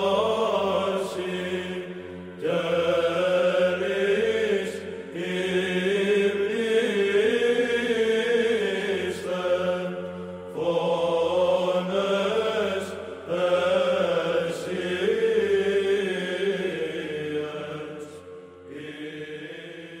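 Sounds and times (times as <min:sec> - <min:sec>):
chant over a held drone: 0:00.0 - 0:20.0.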